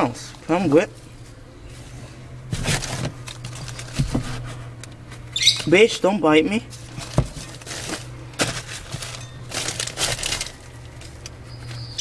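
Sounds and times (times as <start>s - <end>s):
steady low hum: 0.0s - 12.0s
rustling and crinkling of bedding: 0.2s - 5.3s, 6.6s - 11.8s.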